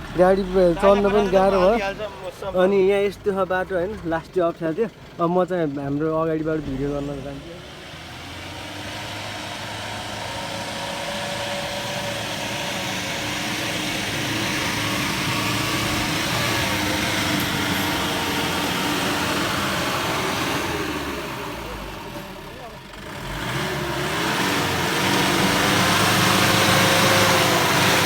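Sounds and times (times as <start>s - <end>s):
road and tyre noise: 0.0s - 28.0s
vehicle engine running: 0.0s - 28.0s.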